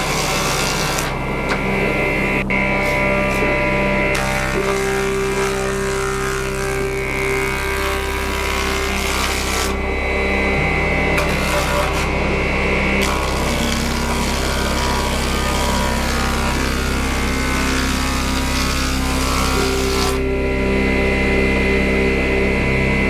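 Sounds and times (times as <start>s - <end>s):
tool rasping wood: 0.0s - 20.4s
machine hum: 0.0s - 23.0s.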